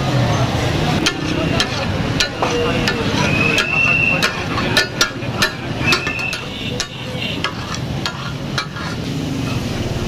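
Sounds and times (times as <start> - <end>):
frying sizzle: 0.0 - 10.0
metal spatulas clacking on griddle: 1.0 - 9.6.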